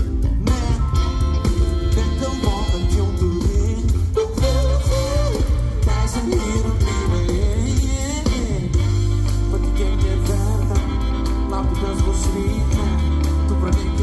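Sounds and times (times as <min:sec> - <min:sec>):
bass line: 0:00.0 - 0:14.0
big band playing: 0:00.0 - 0:14.0
horns: 0:00.0 - 0:14.0
man singing: 0:00.3 - 0:14.0.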